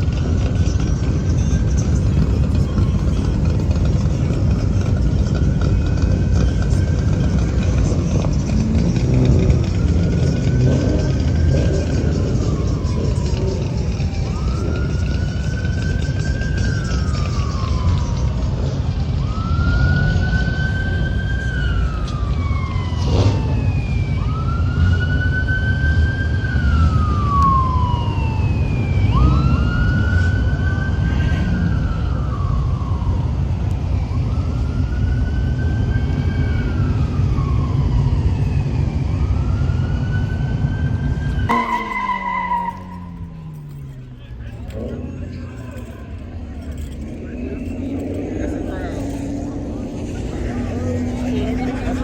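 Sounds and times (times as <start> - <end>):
police siren wailing: 0.0 - 52.0.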